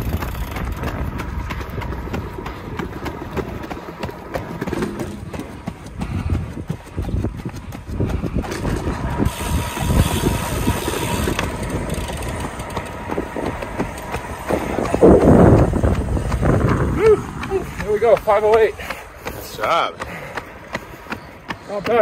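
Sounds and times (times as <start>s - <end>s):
wind rumbling on microphone: 0.0s - 19.2s
running footsteps on pavement: 0.0s - 22.0s.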